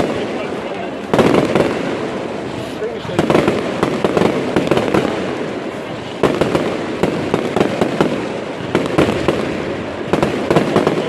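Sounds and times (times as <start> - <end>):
fireworks cracking and popping: 0.0 - 11.0
heavy firework bangs: 0.0 - 11.0.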